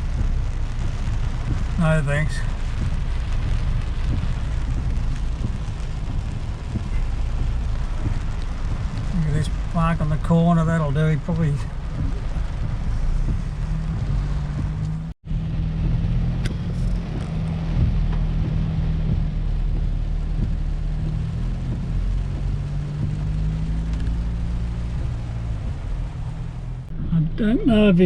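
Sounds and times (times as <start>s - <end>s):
car engine hum inside cabin: 0.0s - 28.0s.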